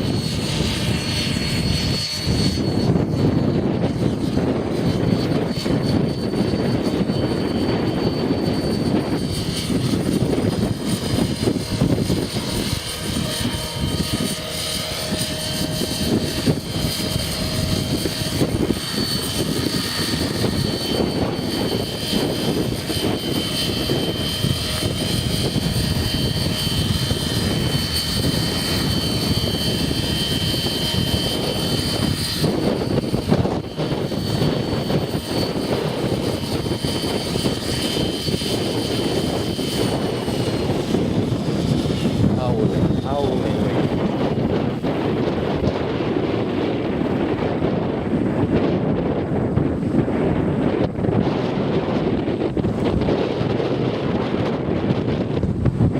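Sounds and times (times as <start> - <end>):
rc helicopter motor whine: 0.0 - 55.9
wind buffeting microphone: 0.0 - 55.9.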